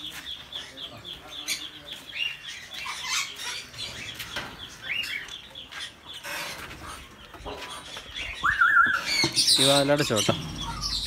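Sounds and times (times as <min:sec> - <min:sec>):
parrots chirping: 0:00.2 - 0:11.0.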